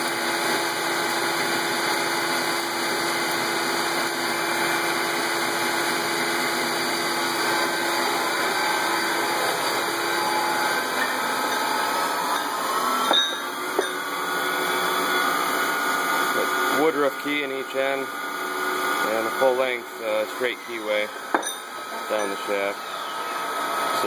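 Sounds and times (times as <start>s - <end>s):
metalworking machines running: 0.0s - 24.0s.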